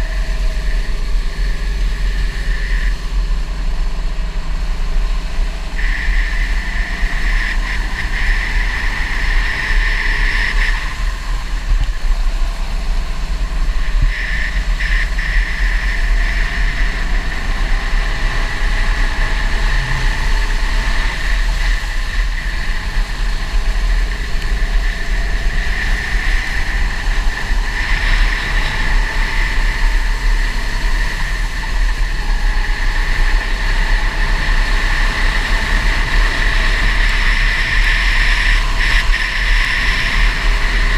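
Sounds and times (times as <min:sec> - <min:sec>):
go-kart engine running: 0:00.0 - 0:40.9
low wind rumble: 0:00.0 - 0:40.9.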